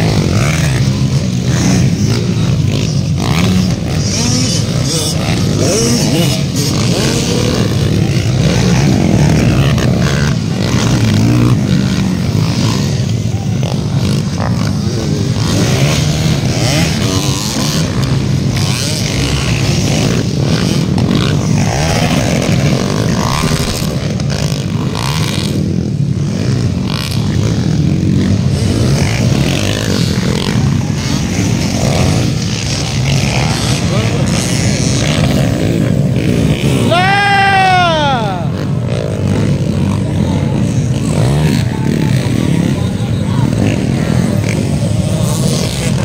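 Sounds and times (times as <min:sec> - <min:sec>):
crowd voices: 0:00.0 - 0:46.0
dirt bike engines revving: 0:00.0 - 0:46.0.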